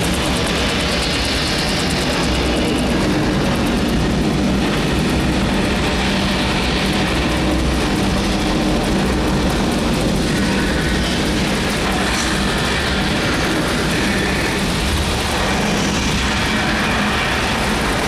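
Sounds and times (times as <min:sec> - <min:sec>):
rocket lift-off rumble: 0:00.0 - 0:18.0.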